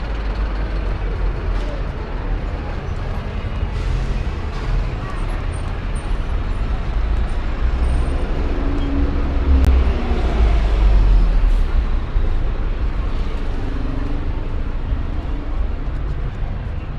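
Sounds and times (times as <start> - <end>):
vehicle engine rumbling: 0.0 - 16.9.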